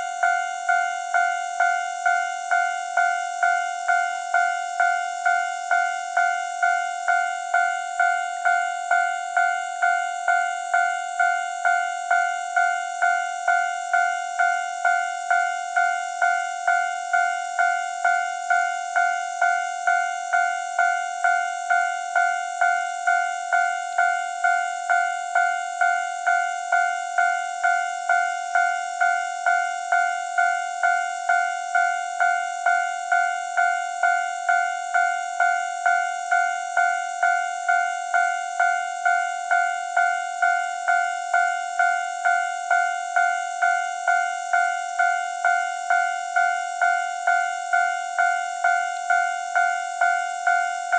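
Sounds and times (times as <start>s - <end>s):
level crossing warning bell: 0.0s - 50.9s.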